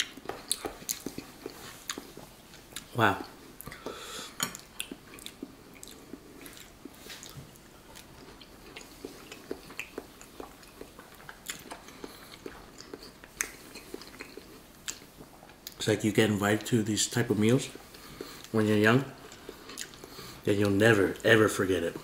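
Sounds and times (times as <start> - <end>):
person chewing soft food: 0.0 - 15.8, 17.7 - 18.6, 19.2 - 20.4.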